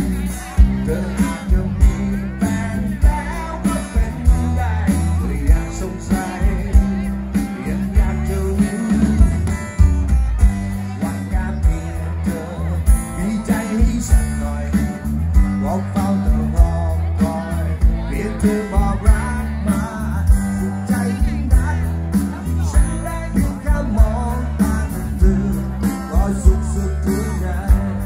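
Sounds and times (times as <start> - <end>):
person singing: 0.0 - 28.0
rock band playing: 0.0 - 28.0.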